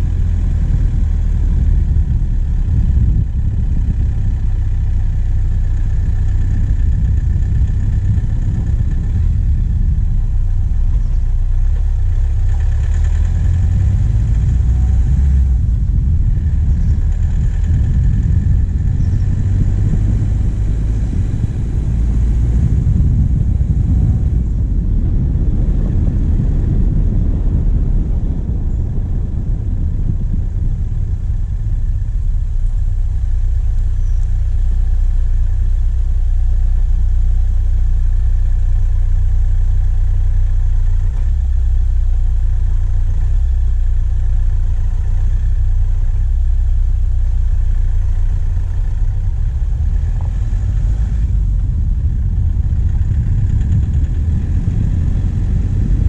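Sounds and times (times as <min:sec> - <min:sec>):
diesel engine rumbling: 0:00.0 - 0:56.0
road noise: 0:00.0 - 0:56.0.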